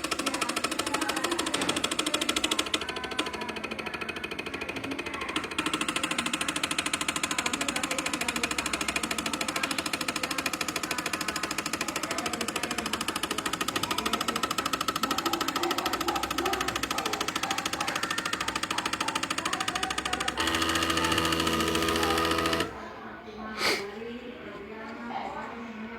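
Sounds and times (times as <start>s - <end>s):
stepper motors buzzing: 0.0s - 22.9s.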